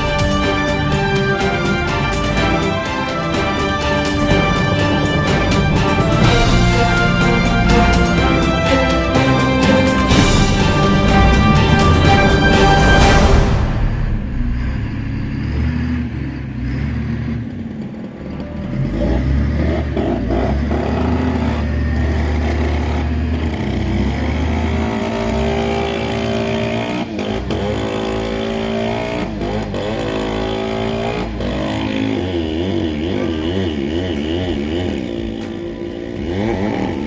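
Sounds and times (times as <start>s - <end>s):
engine running: 0.0s - 37.0s.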